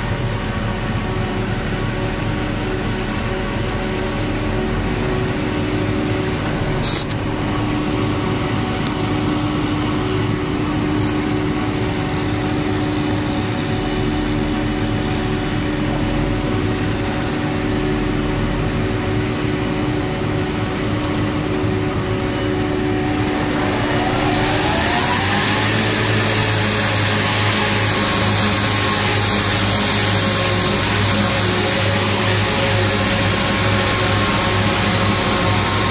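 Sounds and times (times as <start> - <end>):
forage harvester running: 0.0 - 35.9
tractor engine with rising pitch: 0.0 - 35.9.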